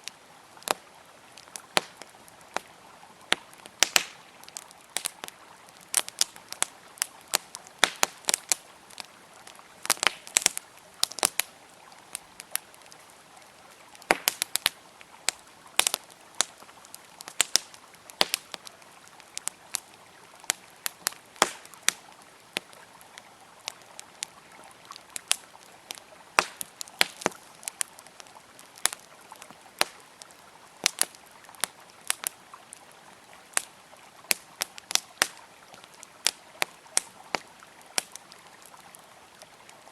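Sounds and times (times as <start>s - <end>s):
campfire crackling and popping: 0.0s - 39.9s
river water flowing: 0.0s - 39.9s.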